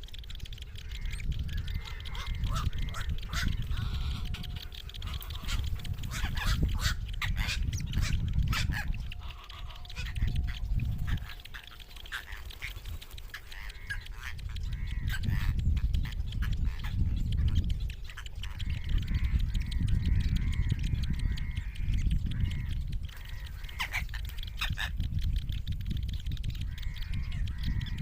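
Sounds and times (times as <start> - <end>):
steady low rumbling noise: 0.0 - 28.0
young birds harsh calls: 0.3 - 28.0.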